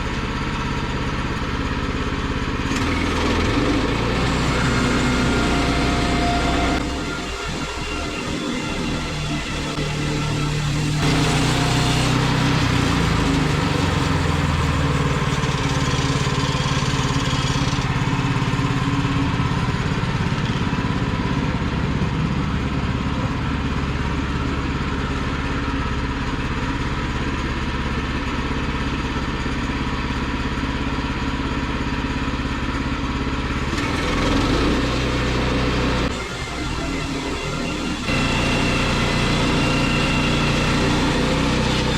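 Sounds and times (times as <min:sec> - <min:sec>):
sawmill gasoline engine running: 0:00.0 - 0:41.9.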